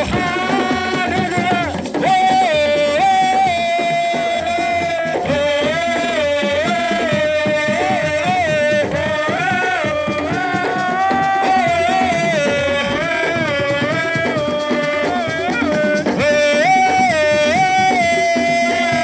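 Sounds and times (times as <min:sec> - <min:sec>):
fast hand-drum rhythm: 0:00.0 - 0:19.0.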